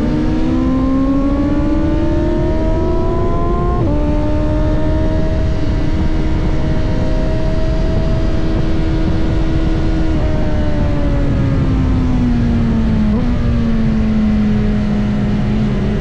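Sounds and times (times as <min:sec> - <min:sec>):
heavy wind noise: 0:00.0 - 0:16.0
motorcycle engine accelerating: 0:00.0 - 0:16.0.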